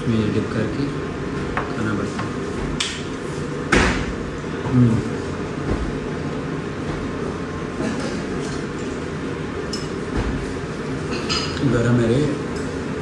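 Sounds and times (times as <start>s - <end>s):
restaurant background noise: 0.0s - 13.0s.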